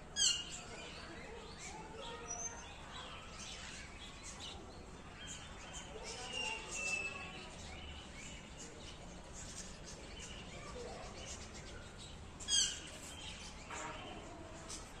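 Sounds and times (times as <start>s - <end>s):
birds chirping faintly: 0.1s - 15.0s.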